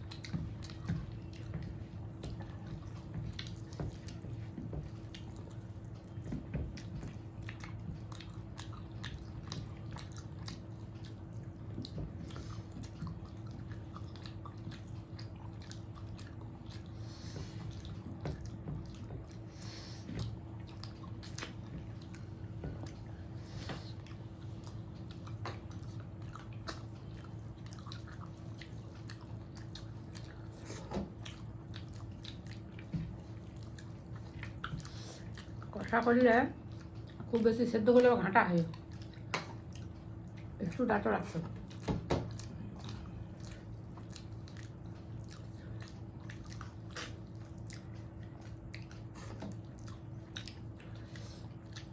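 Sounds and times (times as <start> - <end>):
person chewing food: 0.0 - 40.6, 41.4 - 51.9
steady low hum: 0.0 - 51.9.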